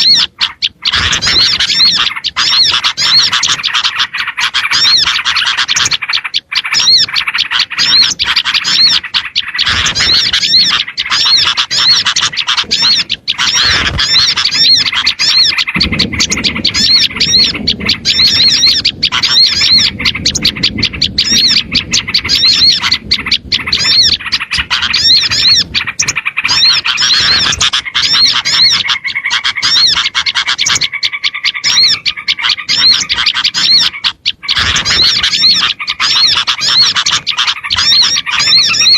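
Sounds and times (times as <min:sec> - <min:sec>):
bulbul calls: 0:00.0 - 0:38.9
small birds chirping: 0:00.0 - 0:38.9.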